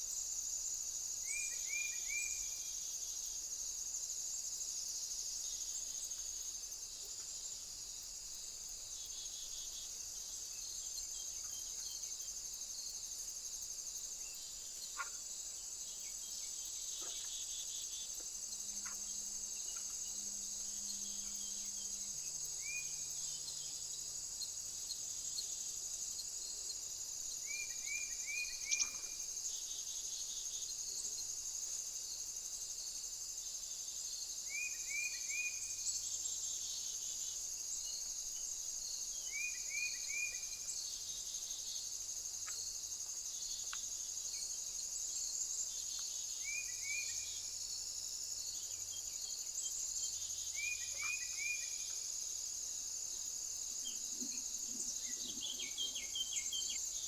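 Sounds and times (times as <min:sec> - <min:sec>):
high insect chorus: 0:00.0 - 0:57.0.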